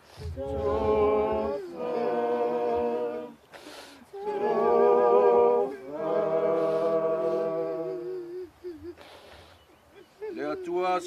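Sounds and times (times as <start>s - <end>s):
group singing a hymn unaccompanied: 0.0s - 8.9s.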